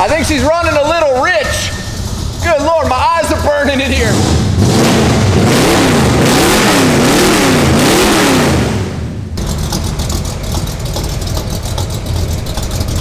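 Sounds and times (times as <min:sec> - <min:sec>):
truck engine revving and idling: 0:00.0 - 0:13.0.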